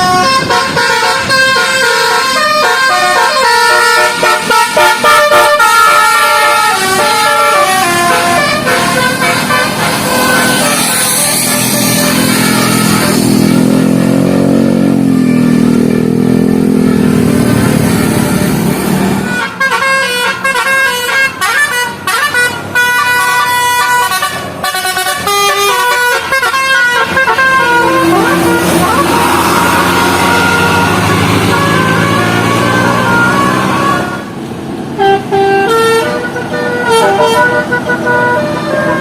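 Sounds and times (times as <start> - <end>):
bus musical horn: 0.0 - 39.0.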